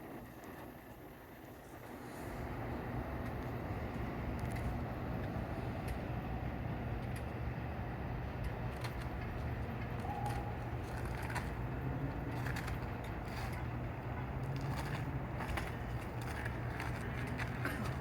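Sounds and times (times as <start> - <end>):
train engine humming: 0.0 - 18.0.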